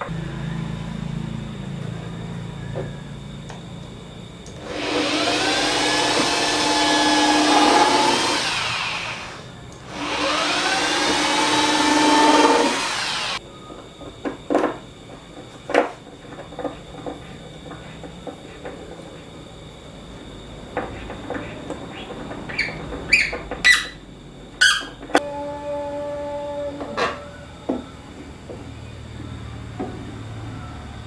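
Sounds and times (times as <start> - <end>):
circular saw motor whining: 0.0 - 20.5, 21.1 - 31.0.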